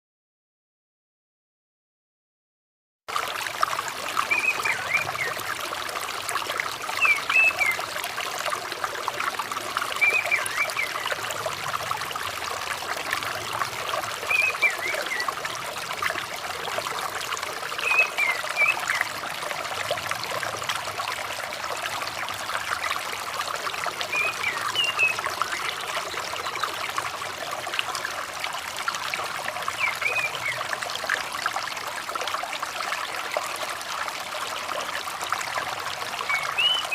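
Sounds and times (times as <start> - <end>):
water trickling: 3.1 - 36.9.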